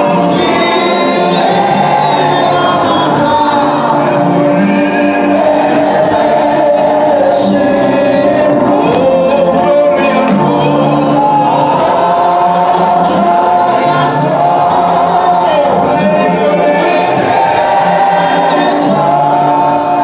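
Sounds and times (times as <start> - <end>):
women's choir singing: 0.0 - 20.0.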